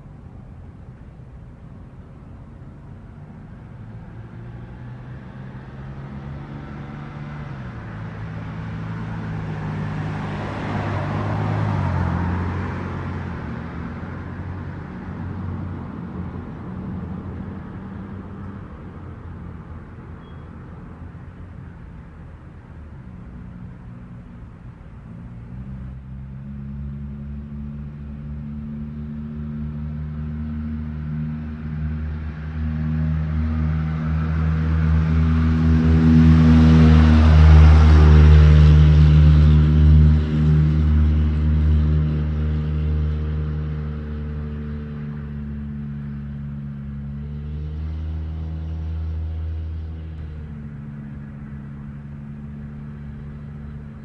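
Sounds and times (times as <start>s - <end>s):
vehicle passing slowly: 0.0s - 54.0s.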